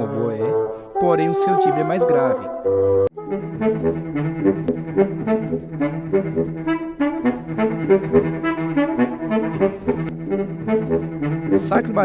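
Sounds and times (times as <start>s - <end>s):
baritone saxophone playing: 0.0s - 12.0s.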